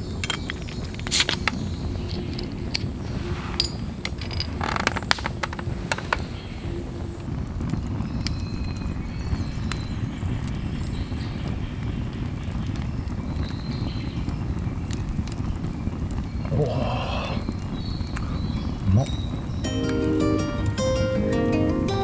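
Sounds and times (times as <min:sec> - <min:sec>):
wood fire crackling: 0:00.0 - 0:22.0
burning logs low rumble: 0:01.5 - 0:20.5.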